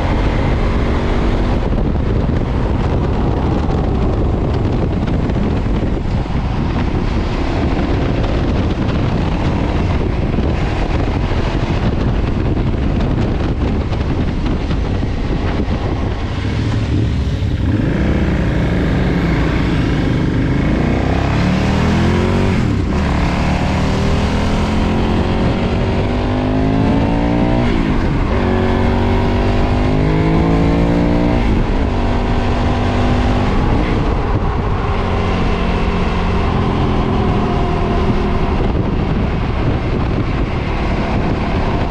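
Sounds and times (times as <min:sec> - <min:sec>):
motorcycle engine accelerating: 0:00.0 - 0:41.9
wind rushing over microphone: 0:00.0 - 0:41.9.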